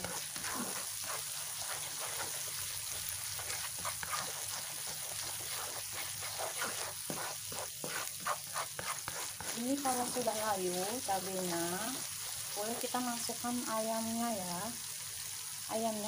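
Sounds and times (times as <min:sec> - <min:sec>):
spatula stirring in a wok: 0:00.0 - 0:14.2
spice paste sizzling in hot oil: 0:00.0 - 0:16.0.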